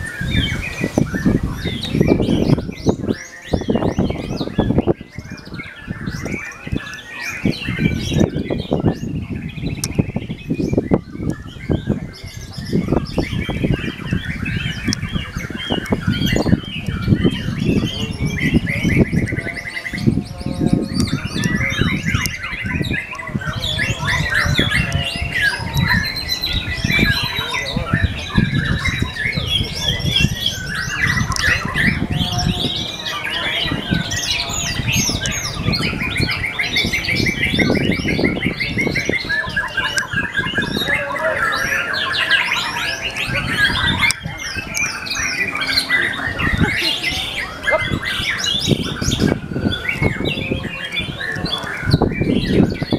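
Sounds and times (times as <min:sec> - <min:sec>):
songbird singing varied song: 0:00.0 - 0:52.9.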